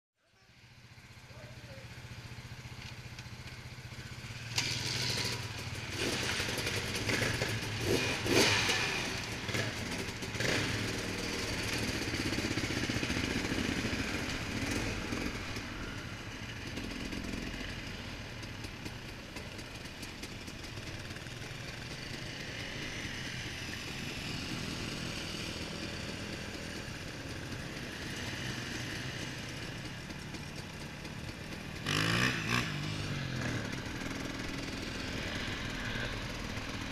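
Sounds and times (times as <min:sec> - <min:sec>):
dirt bike engine idling: 0:00.2 - 0:36.9
dirt bikes revving: 0:00.5 - 0:36.9.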